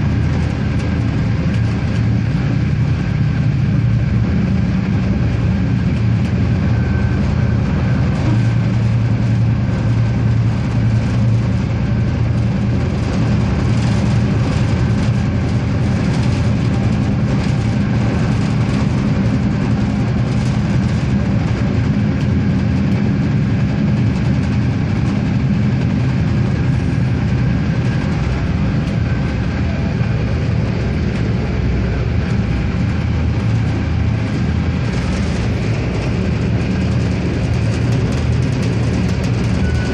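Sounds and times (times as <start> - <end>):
diesel railcar engine drone: 0.0 - 39.9
wheel and rail noise: 0.0 - 39.9.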